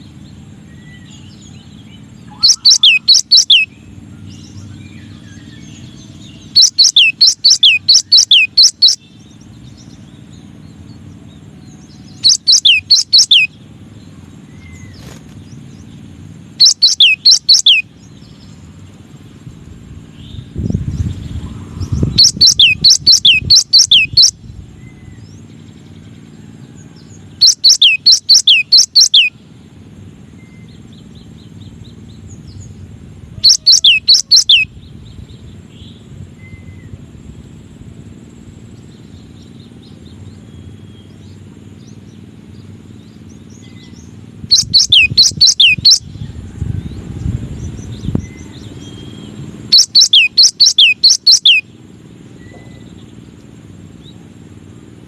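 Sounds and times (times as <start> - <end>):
bird singing whistled notes: 0.0 - 18.6, 20.1 - 29.4, 30.2 - 37.0, 38.7 - 47.0, 47.6 - 54.2
low steady hum: 0.0 - 55.0.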